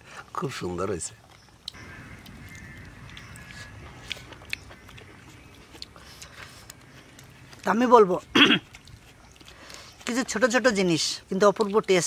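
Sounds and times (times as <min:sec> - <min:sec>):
man chewing food: 0:01.1 - 0:12.0.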